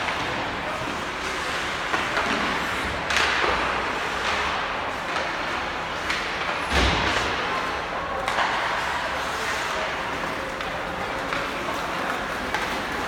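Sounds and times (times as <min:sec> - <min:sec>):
skates scraping ice: 0:00.0 - 0:06.4, 0:08.4 - 0:13.0.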